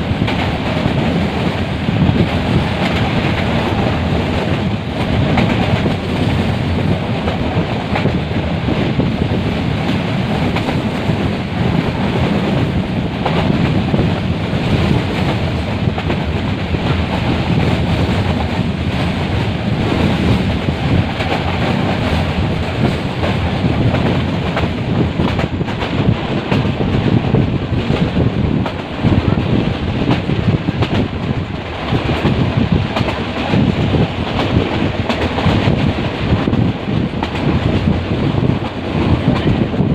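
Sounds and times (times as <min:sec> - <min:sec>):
train wheels on track: 0:00.0 - 0:39.9.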